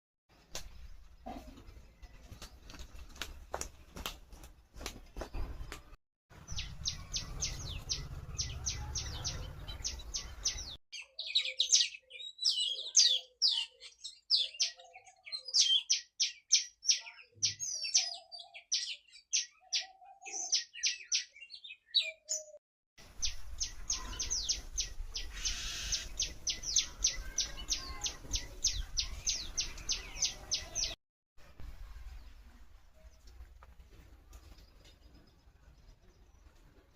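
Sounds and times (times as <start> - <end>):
small birds chirping: 0.4 - 31.0, 32.0 - 36.9.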